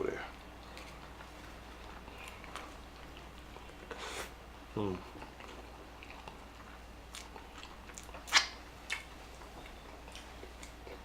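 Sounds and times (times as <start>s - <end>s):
chewing: 0.3s - 4.2s, 5.0s - 11.0s.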